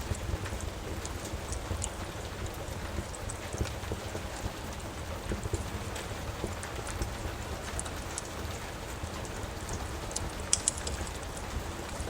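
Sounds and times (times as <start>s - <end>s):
fireplace crackling and popping: 0.0s - 12.0s
steady rain falling: 0.0s - 12.0s.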